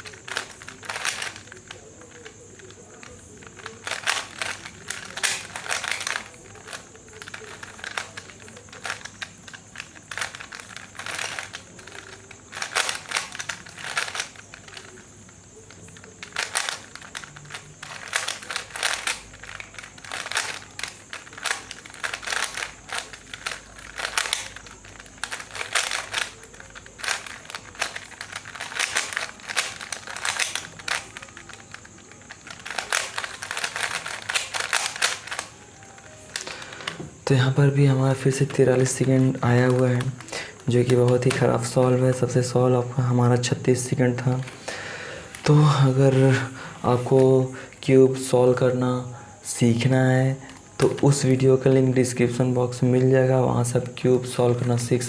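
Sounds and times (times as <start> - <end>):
puzzle cube clicking: 0.0 - 42.5, 50.4 - 55.0.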